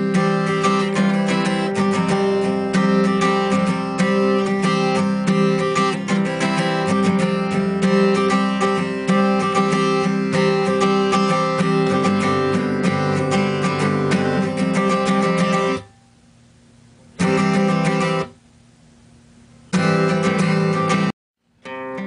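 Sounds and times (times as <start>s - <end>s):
strummed acoustic guitar music: 0.0s - 16.2s, 17.1s - 18.4s, 19.7s - 22.0s.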